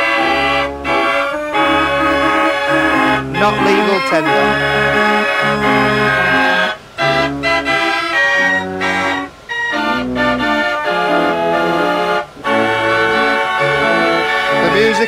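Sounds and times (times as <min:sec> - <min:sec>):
fairground organ playing chords: 0:00.0 - 0:15.0.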